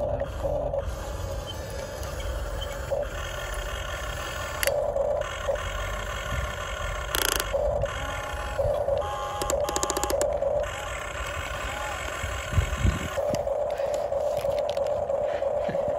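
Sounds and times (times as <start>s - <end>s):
small electric motors whining: 0.0s - 15.9s.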